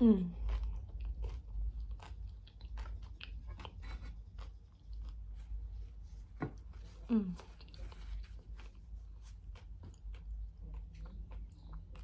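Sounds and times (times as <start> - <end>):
person chewing crunchy tortilla: 0.2 - 12.0.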